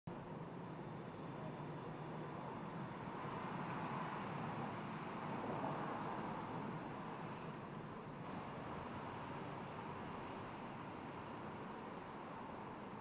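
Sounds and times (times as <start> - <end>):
wind or road noise hiss: 0.2 - 13.0.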